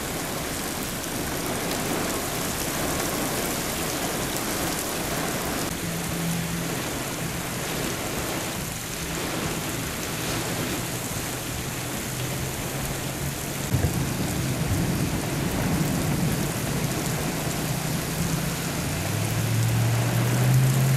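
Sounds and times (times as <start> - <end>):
torrential rain on pavement: 0.0 - 20.9.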